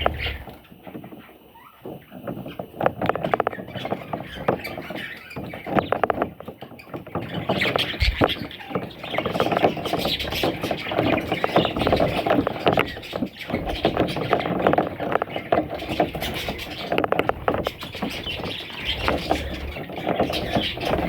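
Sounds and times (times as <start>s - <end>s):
budgies chattering and warbling: 0.0s - 21.0s.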